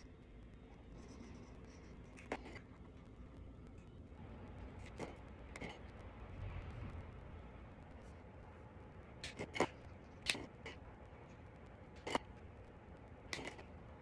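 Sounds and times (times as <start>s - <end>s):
faint steady background: 0.0s - 14.0s.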